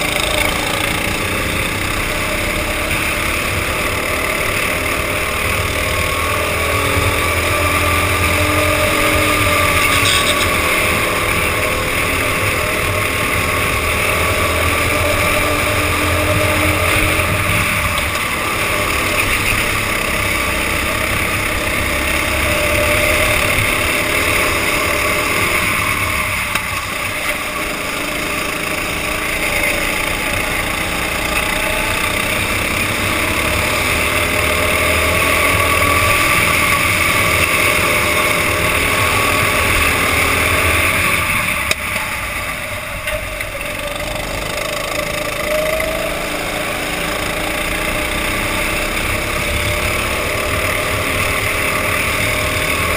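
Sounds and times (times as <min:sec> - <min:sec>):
go-kart engines racing: 0:00.0 - 0:52.9.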